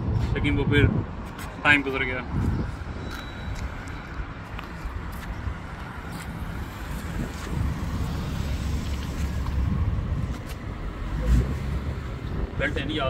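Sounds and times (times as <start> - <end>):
road traffic rumbling: 0.0 - 13.0.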